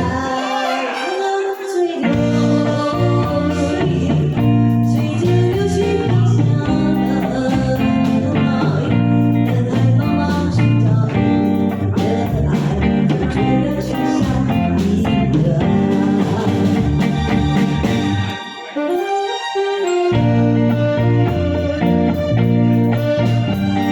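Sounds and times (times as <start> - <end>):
steady bass line: 0.0 - 0.3, 2.1 - 18.5, 20.2 - 23.9
guitar-led backing track: 0.0 - 23.9.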